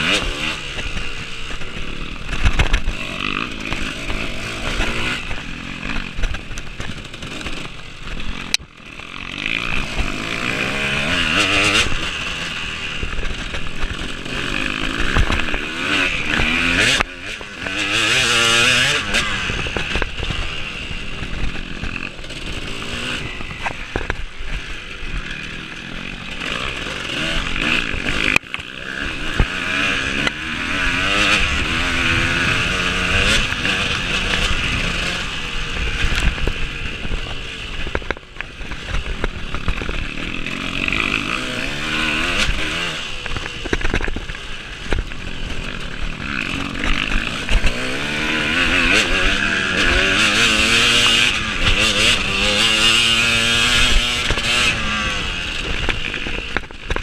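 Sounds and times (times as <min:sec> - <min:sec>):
motorcycle engine revving hard: 0:00.0 - 0:57.0.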